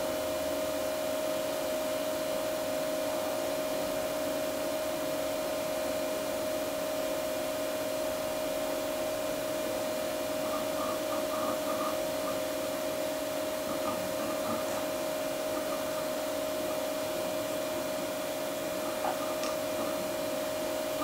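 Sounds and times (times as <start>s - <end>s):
hard drive spinning whine: 0.0s - 21.0s.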